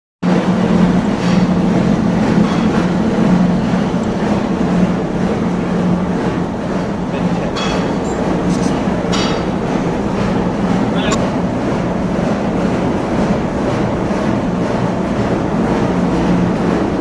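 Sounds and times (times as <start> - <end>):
metal lathe running: 0.3 - 17.0.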